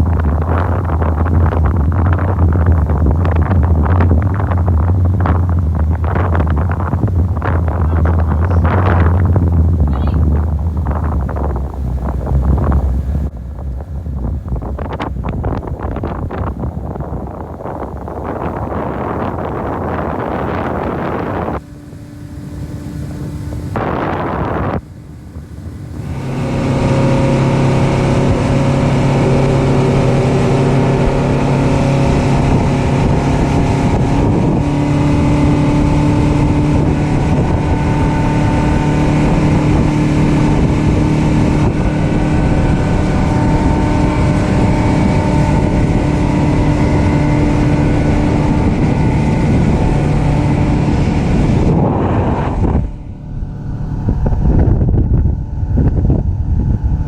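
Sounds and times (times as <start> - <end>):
outboard motor running: 0.0 - 57.0
wind noise on microphone: 0.0 - 57.0.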